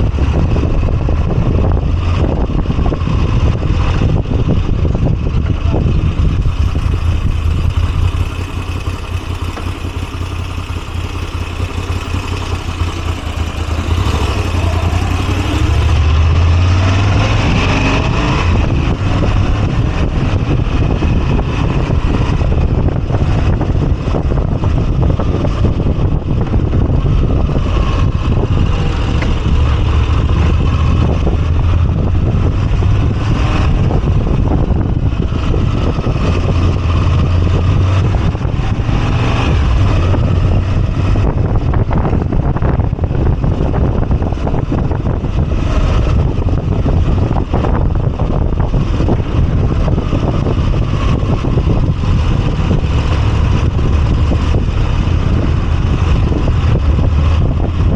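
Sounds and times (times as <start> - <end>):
motorcycle engine throbbing: 0.0 - 57.9.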